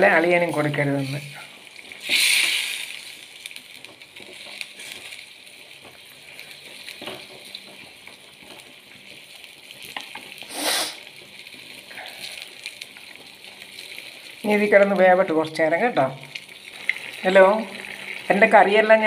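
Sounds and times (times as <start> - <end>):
curry bubbling in a pot: 0.0 - 19.0.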